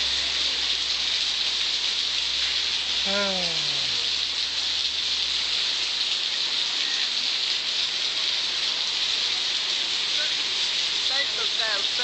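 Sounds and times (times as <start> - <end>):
heavy rain on standing water: 0.0 - 12.0.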